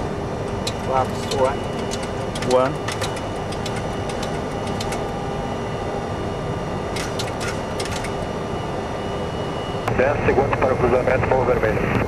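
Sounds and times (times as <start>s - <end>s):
faint electronic tones: 0.0s - 11.8s
airflow and engine noise: 0.0s - 12.0s.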